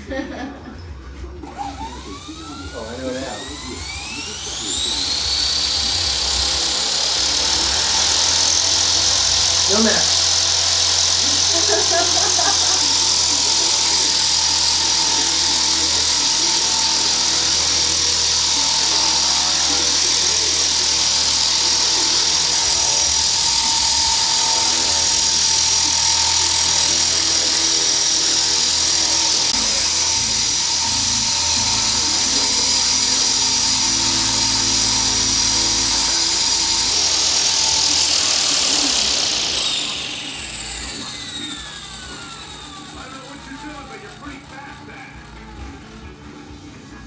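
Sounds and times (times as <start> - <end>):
rc helicopter rotors whining: 1.3 - 46.2.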